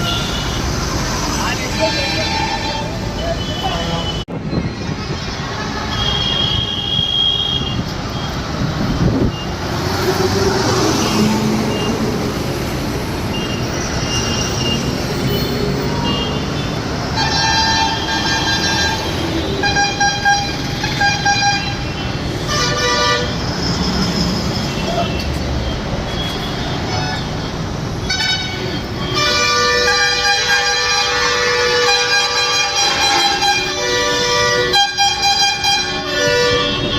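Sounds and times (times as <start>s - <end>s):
vehicle horns honking: 0.0s - 8.4s, 13.3s - 36.9s
bus engine rumble: 0.0s - 36.9s
road noise: 0.0s - 36.9s.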